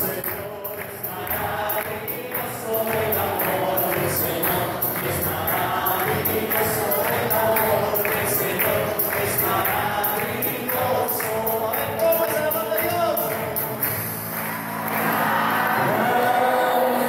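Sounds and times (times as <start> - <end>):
congregation singing a hymn: 0.0 - 17.0.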